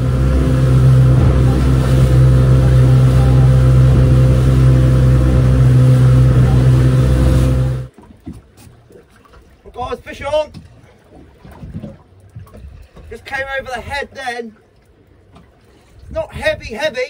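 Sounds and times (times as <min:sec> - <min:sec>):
boat engine hum: 0:00.0 - 0:17.0
wind: 0:00.0 - 0:17.0.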